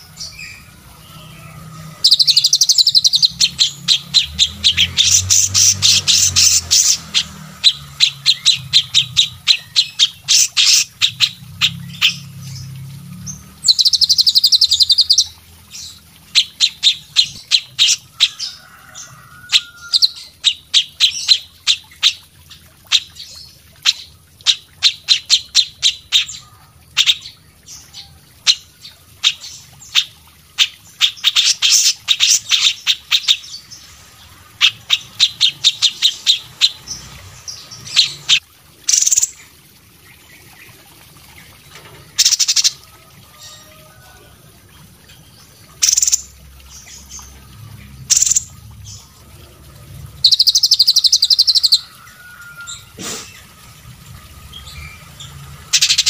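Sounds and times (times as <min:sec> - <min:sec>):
songbird chirping: 0:00.0 - 0:39.5, 0:50.2 - 0:56.0.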